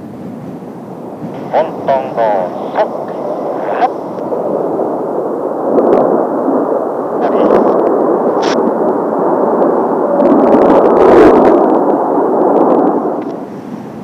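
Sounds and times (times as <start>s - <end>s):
jet engines roaring overhead: 0.0s - 14.0s.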